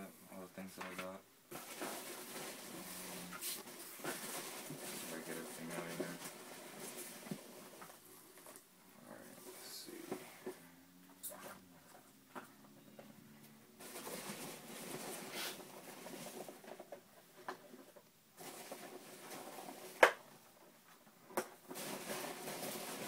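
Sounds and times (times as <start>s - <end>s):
foam packing peanuts rustling: 0.4s - 12.0s, 13.7s - 23.0s.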